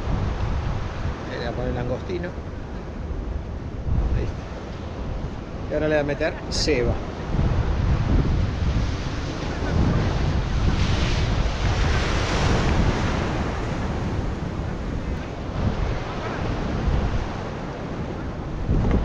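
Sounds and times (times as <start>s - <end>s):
surf washing against rocks: 0.0s - 19.0s
wind buffeting microphone: 0.0s - 19.0s.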